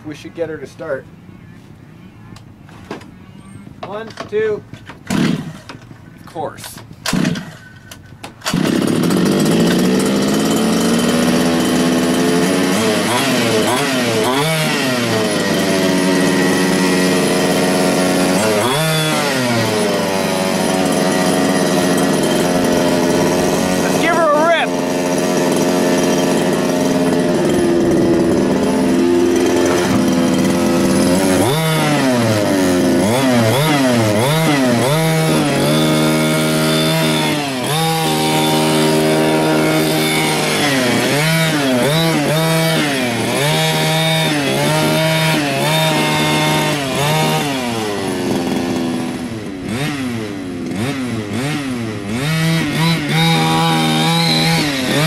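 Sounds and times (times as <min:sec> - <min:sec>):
two-stroke engine revving: 0:05.0 - 0:05.8, 0:07.0 - 0:55.0.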